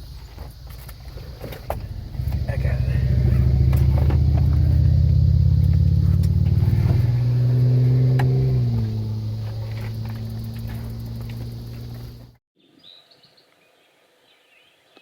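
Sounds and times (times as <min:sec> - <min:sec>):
car engine humming: 0:00.0 - 0:12.4.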